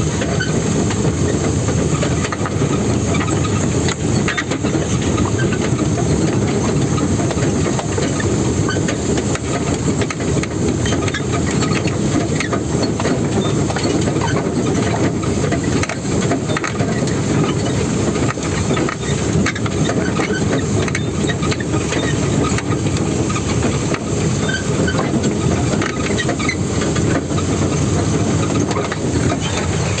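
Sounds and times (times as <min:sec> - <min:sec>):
truck engine rumble: 0:00.0 - 0:30.0.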